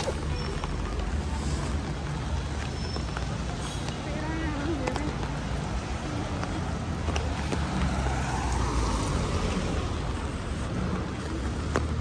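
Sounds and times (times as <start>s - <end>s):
rain: 0.0s - 12.0s
traffic engines rumbling: 0.0s - 12.0s
tyres hissing on wet road: 0.0s - 12.0s.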